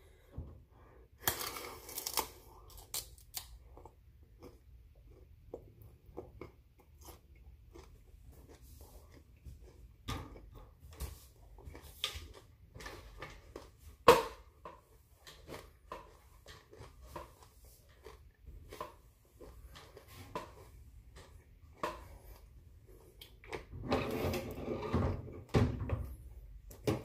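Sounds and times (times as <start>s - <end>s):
person chewing crunchy food: 1.0s - 13.8s, 14.9s - 23.7s.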